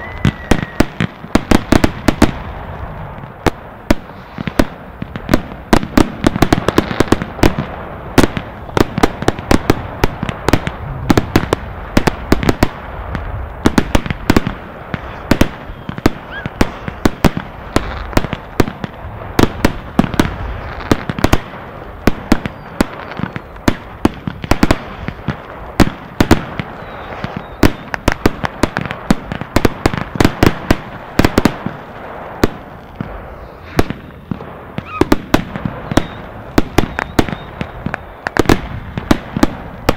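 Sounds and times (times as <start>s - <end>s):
fireworks crackling: 0.0s - 39.9s
fireworks exploding: 0.0s - 39.9s.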